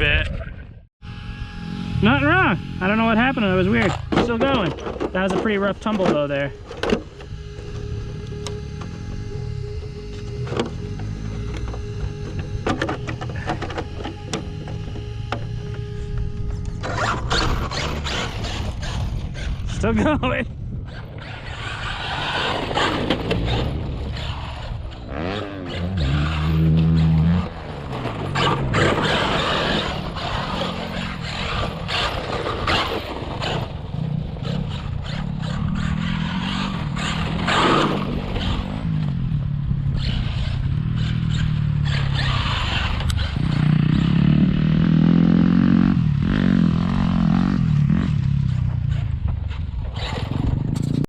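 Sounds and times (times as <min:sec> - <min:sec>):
electric motor whining: 0:01.0 - 0:20.0, 0:20.8 - 0:39.1, 0:39.8 - 0:48.0
tyres scraping and skidding: 0:02.9 - 0:08.0, 0:09.8 - 0:51.0.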